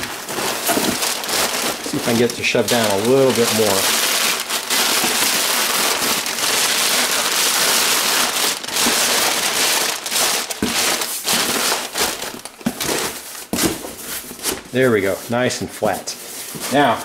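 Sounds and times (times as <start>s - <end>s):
packing paper crinkling: 0.0s - 17.0s
sharp paper crackles: 0.0s - 17.0s.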